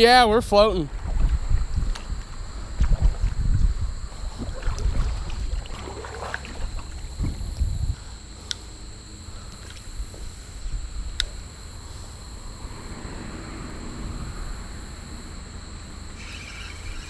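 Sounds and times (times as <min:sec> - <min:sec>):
wind rumble on microphone: 0:00.0 - 0:08.1, 0:09.9 - 0:16.2
insects droning: 0:00.0 - 0:17.0.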